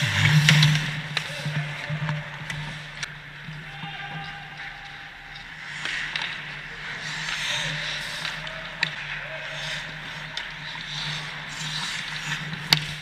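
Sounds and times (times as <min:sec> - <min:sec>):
skate blades scraping ice: 0:00.0 - 0:13.0.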